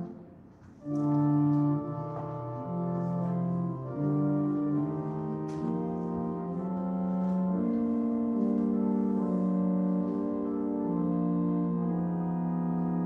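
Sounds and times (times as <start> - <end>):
pipe organ playing chords: 0.0 - 13.0.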